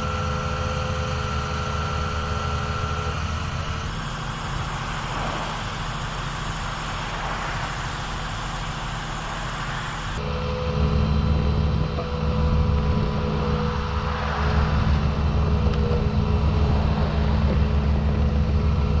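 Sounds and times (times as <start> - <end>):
faint steady whine: 0.0 - 19.0
vehicle engine running: 0.0 - 19.0.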